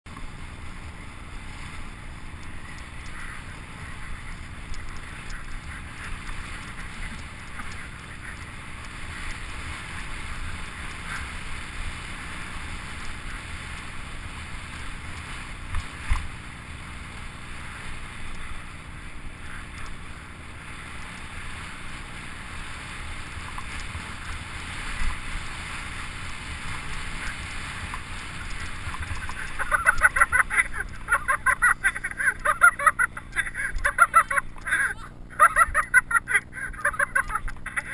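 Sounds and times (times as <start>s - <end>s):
sliding over packed snow: 0.2s - 37.9s.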